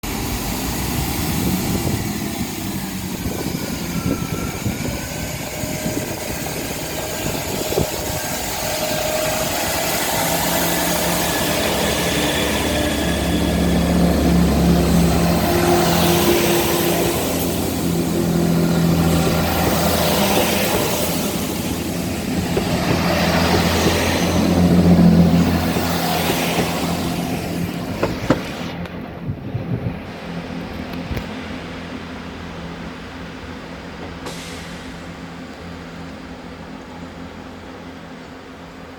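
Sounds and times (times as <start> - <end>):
diesel train engine drone: 0.0 - 38.9.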